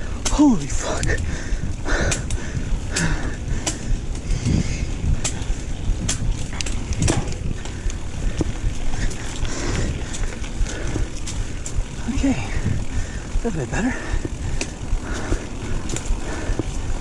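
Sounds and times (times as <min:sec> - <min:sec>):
bike drivetrain clicks and knocks: 0:00.0 - 0:17.0
bike tyres rumbling on dirt: 0:00.0 - 0:17.0
wind on camera: 0:00.0 - 0:17.0.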